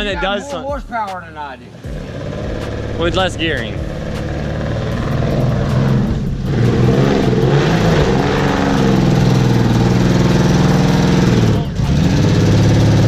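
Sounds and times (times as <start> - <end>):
off-road vehicle engine revving: 1.7 - 13.0.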